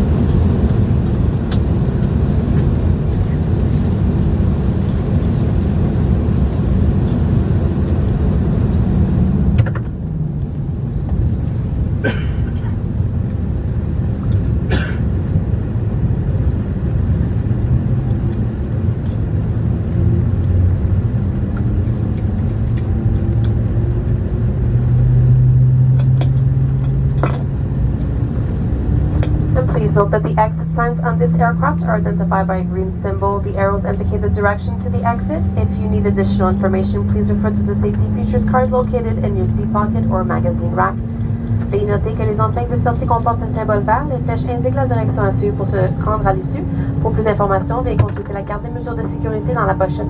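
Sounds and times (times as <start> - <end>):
aircraft cabin low rumble: 0.0 - 50.0
low hum: 0.0 - 50.0.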